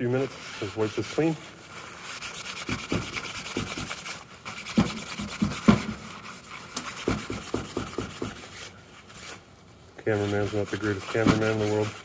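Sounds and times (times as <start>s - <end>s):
paper towel rubbing on metal: 0.0s - 9.4s, 10.0s - 12.0s.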